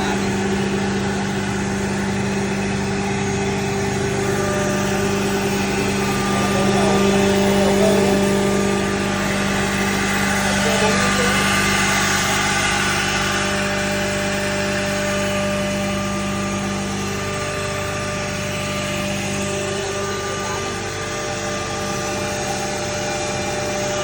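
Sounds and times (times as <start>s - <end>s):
router machine hum: 0.0s - 24.0s.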